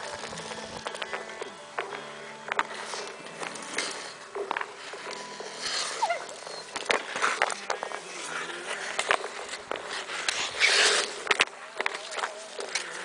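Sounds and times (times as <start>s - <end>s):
ice skate blades scraping on ice: 0.0s - 13.0s.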